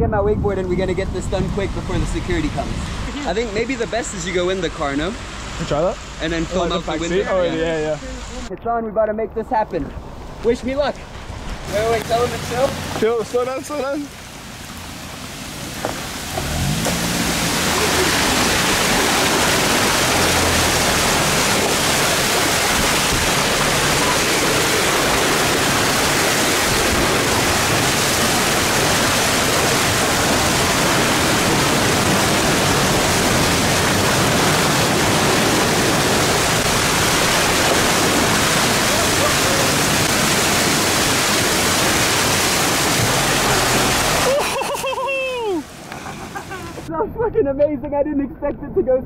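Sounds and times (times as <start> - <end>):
floodwater rushing and spraying: 0.4 - 8.5, 9.7 - 47.3.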